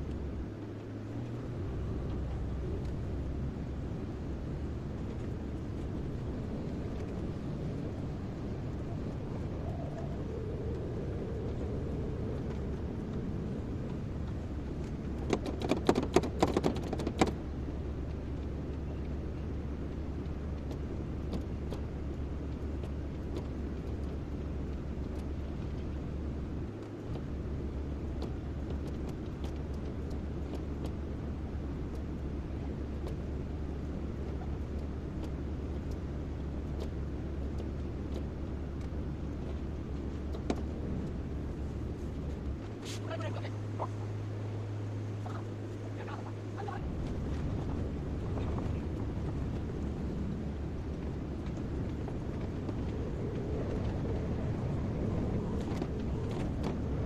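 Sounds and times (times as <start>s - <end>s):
diesel engine low rumble: 0.0s - 57.0s.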